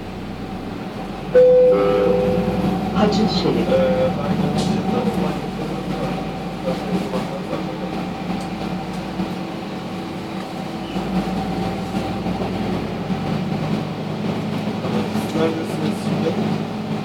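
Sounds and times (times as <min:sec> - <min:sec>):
rail car rumble: 0:00.0 - 0:17.0.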